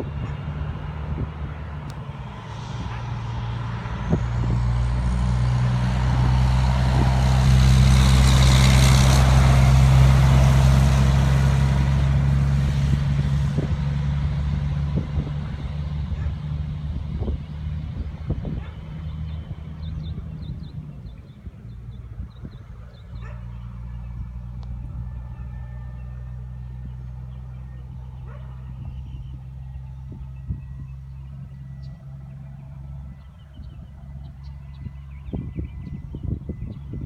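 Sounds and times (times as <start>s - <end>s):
diesel truck driving past: 0.0s - 37.0s.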